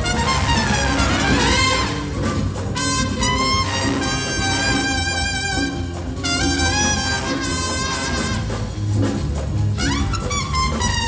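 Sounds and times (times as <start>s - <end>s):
jazz trumpet solo: 0.0s - 9.0s, 9.8s - 11.0s
big band accompaniment: 0.0s - 11.0s
steady bass line: 0.0s - 11.0s.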